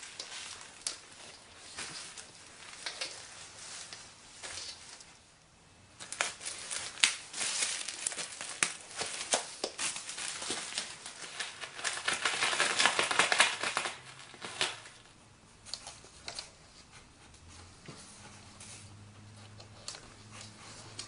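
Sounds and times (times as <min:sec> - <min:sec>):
dried catnip crackling under cat: 0:00.0 - 0:05.3, 0:05.9 - 0:21.0.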